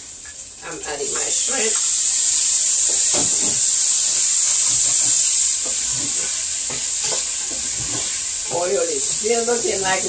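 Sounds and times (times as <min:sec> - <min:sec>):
shrimp sizzling in hot oil: 0:00.0 - 0:10.0.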